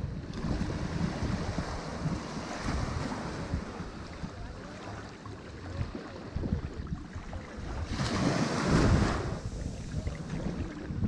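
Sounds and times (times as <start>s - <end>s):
gusty wind rumble: 0.0s - 4.7s, 6.3s - 11.0s
surf washing onto beach: 0.0s - 11.0s.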